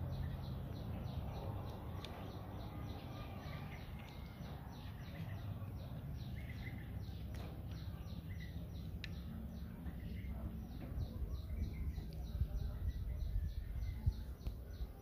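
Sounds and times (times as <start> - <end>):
low steady background noise: 0.0 - 15.0
small birds chirping: 0.0 - 15.0.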